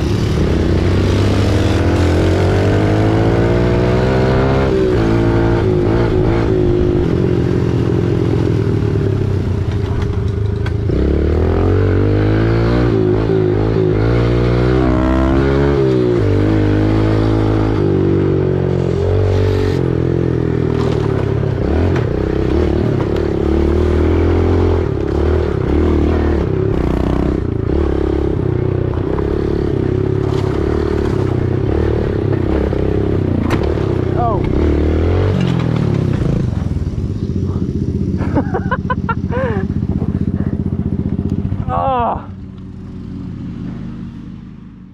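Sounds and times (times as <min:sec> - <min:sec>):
dirt bike engine revving: 0:00.0 - 0:44.8.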